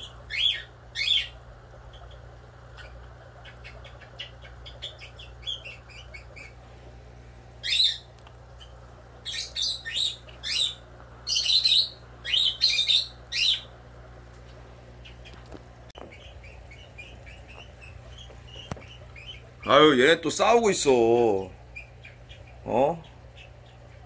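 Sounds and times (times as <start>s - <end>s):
bird chirping: 0.0s - 6.6s, 7.6s - 13.8s, 14.4s - 24.0s.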